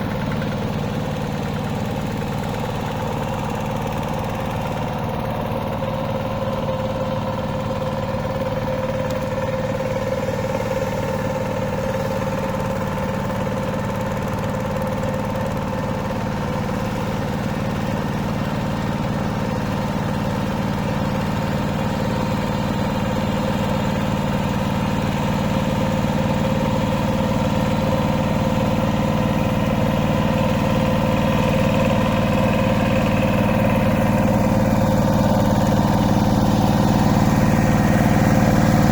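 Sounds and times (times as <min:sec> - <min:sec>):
hand tractor engine running: 0:00.0 - 0:38.9.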